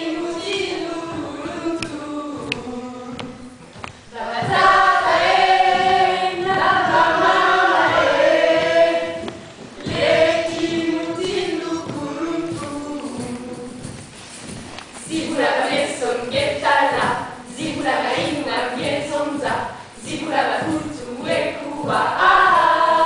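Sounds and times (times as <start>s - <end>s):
group singing in chorus: 0.0s - 14.4s, 15.0s - 23.0s.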